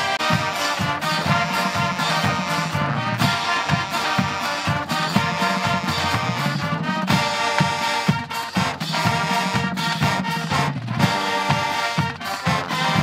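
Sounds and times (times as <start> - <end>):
brass held chords: 0.0 - 13.0
marching band playing: 0.0 - 13.0
marching drums and cymbals: 0.0 - 13.0.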